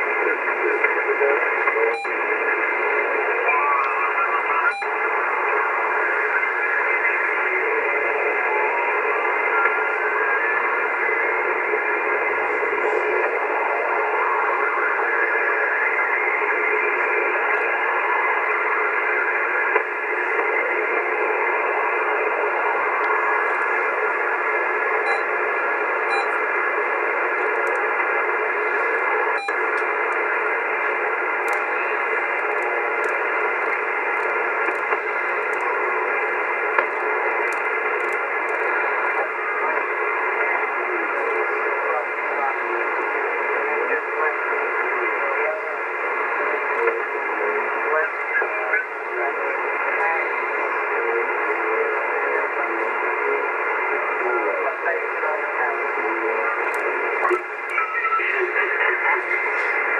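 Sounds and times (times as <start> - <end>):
radio band noise: 0.0 - 59.9.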